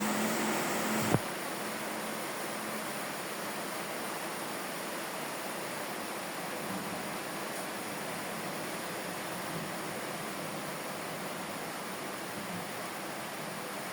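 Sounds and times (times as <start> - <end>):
steady rain hiss: 0.0 - 13.9.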